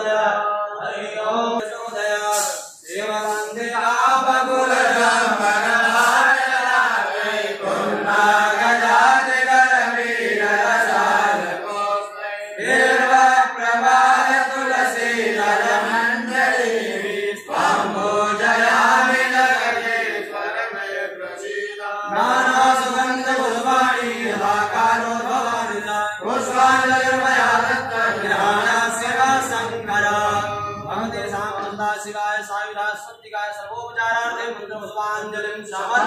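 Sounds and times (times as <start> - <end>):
men chanting together: 0.0 - 32.8, 33.4 - 36.0.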